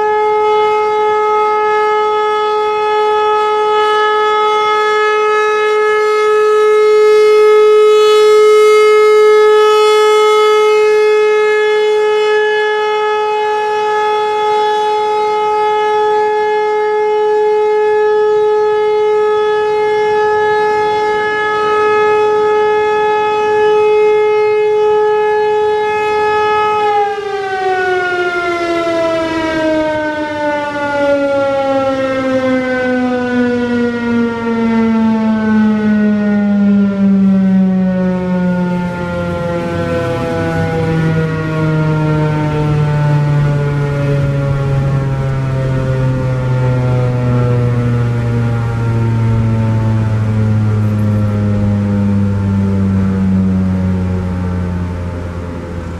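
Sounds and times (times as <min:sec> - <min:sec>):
civil defense siren: 0:00.0 - 0:55.9.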